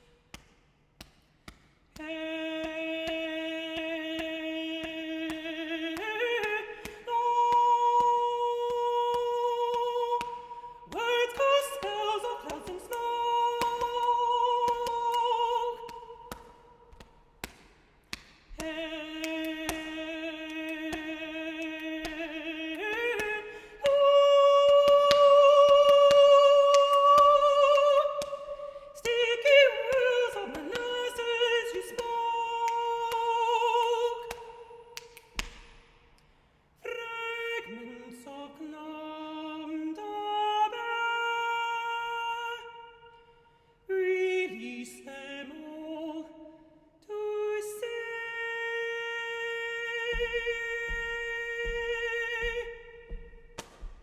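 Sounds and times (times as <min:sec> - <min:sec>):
solo voice singing without words: 0:01.9 - 0:35.8, 0:36.7 - 0:54.0.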